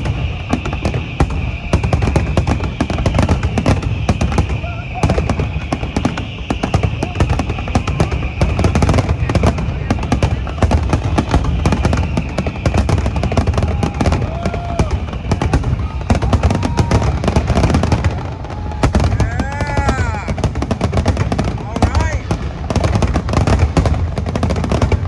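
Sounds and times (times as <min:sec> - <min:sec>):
firework shells bursting: 0:00.0 - 0:25.0.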